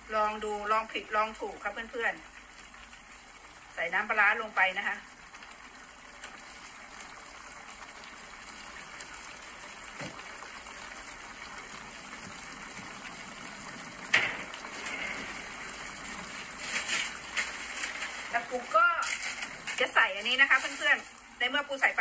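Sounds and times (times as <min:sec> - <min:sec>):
mushrooms sizzling in a frying pan: 0:00.0 - 0:22.0.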